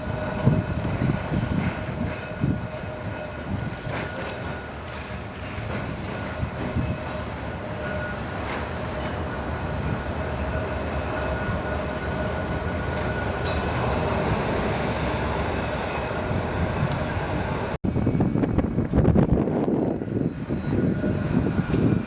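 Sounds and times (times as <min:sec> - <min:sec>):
electric tram rumbling on track: 0:00.0 - 0:22.0.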